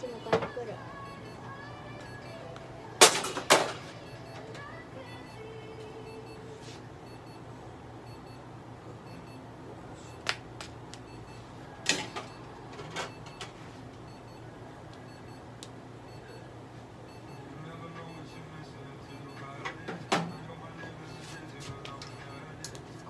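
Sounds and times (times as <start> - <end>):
equipment humming: 0.0 - 23.0.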